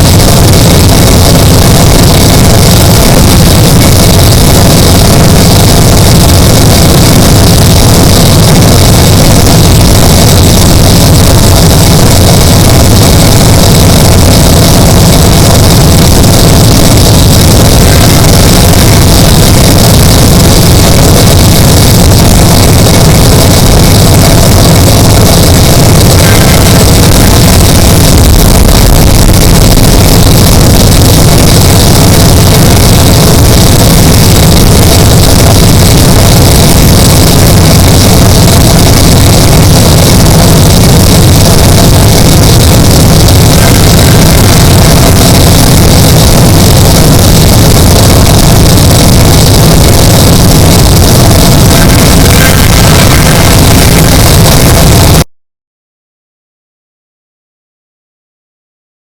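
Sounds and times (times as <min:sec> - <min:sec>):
loud distorted rumbling: 0:00.0 - 0:55.3.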